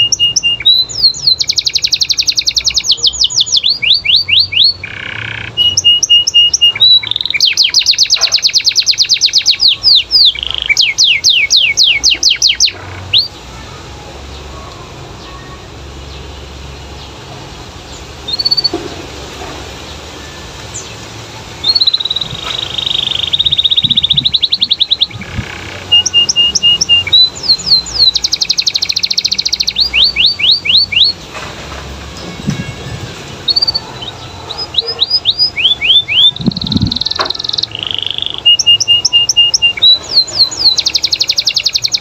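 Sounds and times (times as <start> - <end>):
canary singing trills: 0.0 - 31.3, 32.0 - 42.0.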